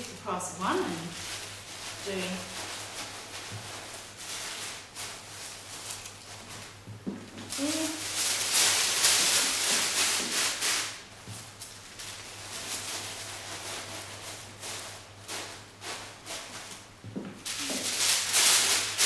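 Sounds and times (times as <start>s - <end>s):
tissue paper rustling and crinkling: 0.0s - 19.0s.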